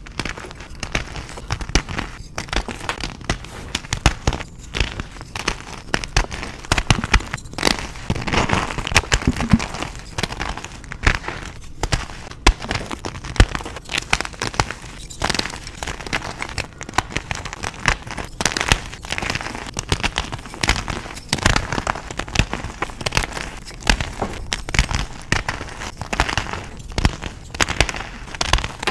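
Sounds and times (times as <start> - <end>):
chalk crushing and crackling: 0.0 - 28.9.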